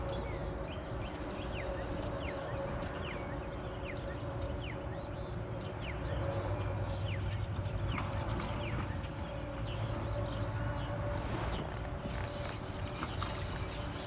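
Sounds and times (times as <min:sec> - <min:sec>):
birds chirping: 0:00.0 - 0:14.0
low hum and rumble: 0:00.0 - 0:14.0.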